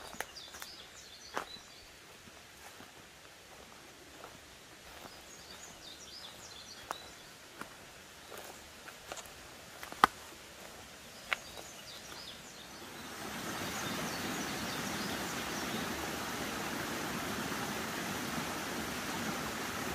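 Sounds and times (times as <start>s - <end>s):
steady rushing hiss: 1.8s - 19.9s.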